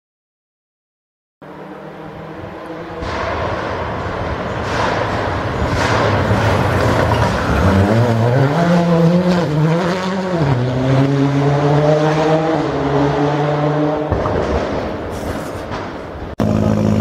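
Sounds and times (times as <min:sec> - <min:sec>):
rally car engine passing by: 0:01.4 - 0:15.1.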